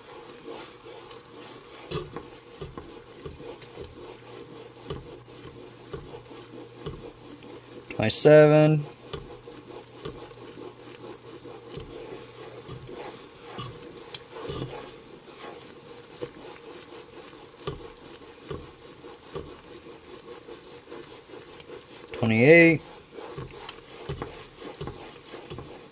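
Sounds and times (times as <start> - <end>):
syrup sizzling: 0.0 - 25.9
wooden spoon scraping metal pot: 0.0 - 25.9.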